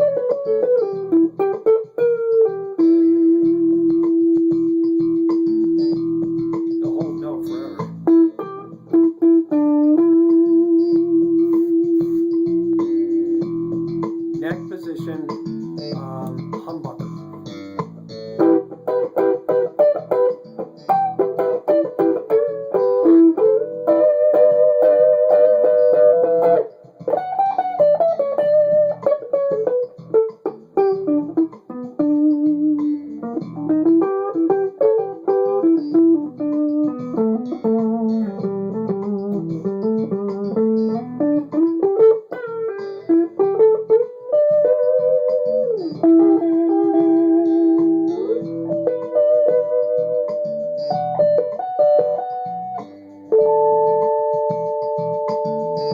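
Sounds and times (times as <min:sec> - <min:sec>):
electric guitar melodic run: 0:00.0 - 0:55.9.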